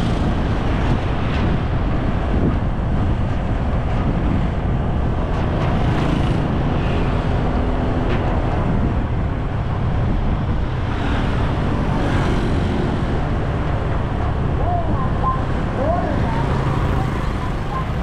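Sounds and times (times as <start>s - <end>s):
vehicle and road noise: 0.0s - 18.0s
wind on microphone: 0.0s - 18.0s.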